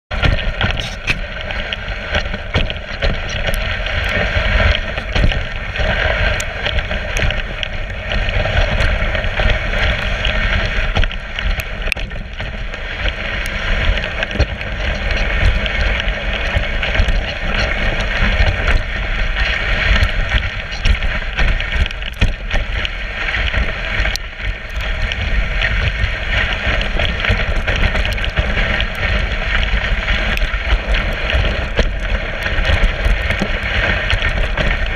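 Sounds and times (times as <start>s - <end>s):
sled clicks and knocks: 0.1s - 34.9s
wind on microphone: 0.1s - 34.9s.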